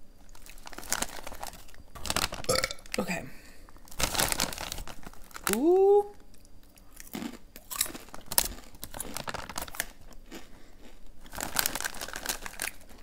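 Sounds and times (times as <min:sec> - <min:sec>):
chips crunching and chewing: 0:00.2 - 0:03.1, 0:03.8 - 0:13.0
chip bag crinkling: 0:00.2 - 0:06.0, 0:06.9 - 0:13.0.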